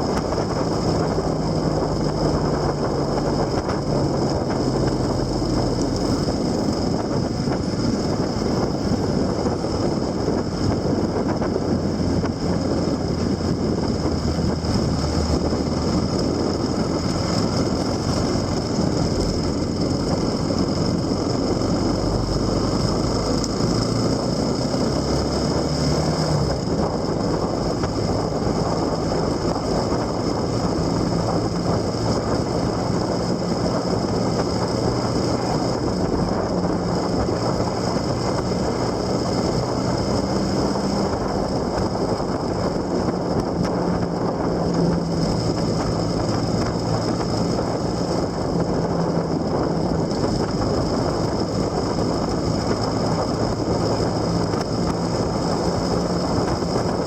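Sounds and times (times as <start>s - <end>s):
engine hum: 0.0s - 57.0s
wind and road noise: 0.0s - 57.0s.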